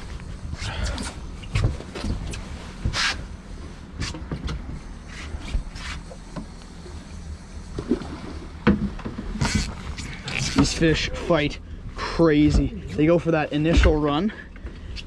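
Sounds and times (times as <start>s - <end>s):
outboard motor running: 0.0s - 12.2s.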